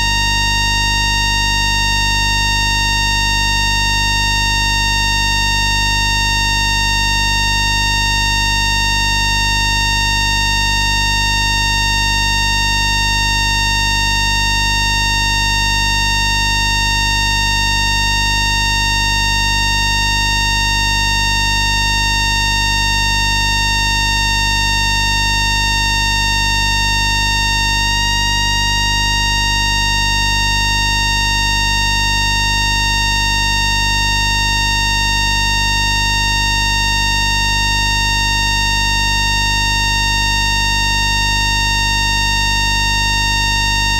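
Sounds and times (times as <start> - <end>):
electromagnetic converter whine: 0.0 - 43.9.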